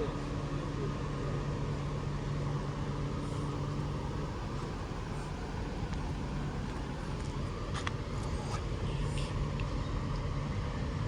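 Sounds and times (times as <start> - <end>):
electric train humming: 0.0 - 11.0.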